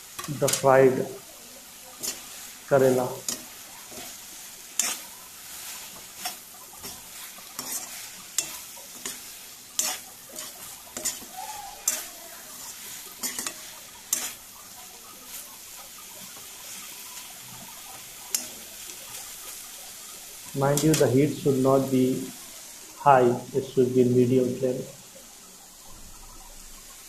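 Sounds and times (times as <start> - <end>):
metal spoon scraping a pan: 0.0 - 22.5
faint sizzle: 0.0 - 27.0.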